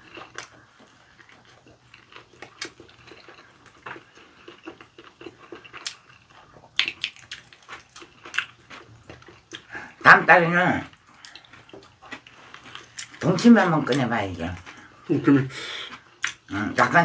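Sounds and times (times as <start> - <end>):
fried chicken chewing: 0.0 - 10.0, 10.9 - 17.0.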